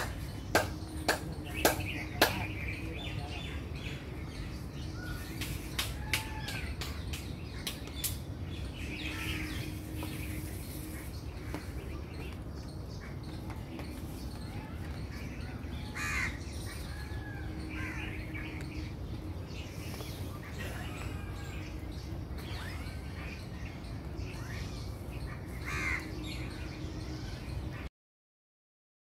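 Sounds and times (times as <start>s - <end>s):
birds calling: 0.0s - 27.9s.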